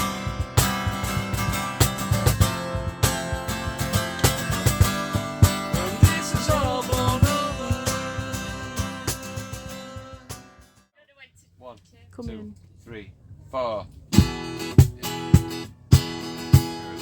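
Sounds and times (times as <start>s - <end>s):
guitar band music with drum beat: 0.0s - 10.8s, 14.1s - 17.0s.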